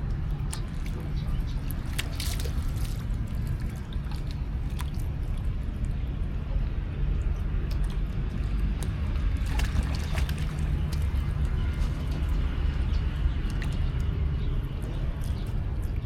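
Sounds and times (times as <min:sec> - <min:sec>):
low rumble: 0:00.0 - 0:16.0
water splashing in a pool: 0:00.0 - 0:16.0.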